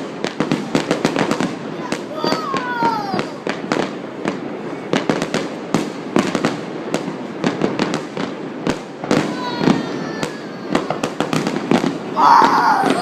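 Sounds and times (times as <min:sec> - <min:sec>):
fireworks bangs and pops: 0:00.0 - 0:13.0
fireworks crackle: 0:00.0 - 0:13.0.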